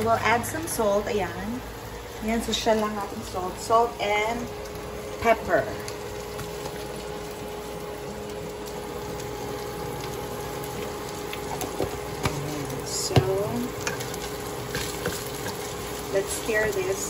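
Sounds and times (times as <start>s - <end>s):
food sizzling in a pan: 0.0s - 17.0s
induction cooker hum: 0.0s - 17.0s.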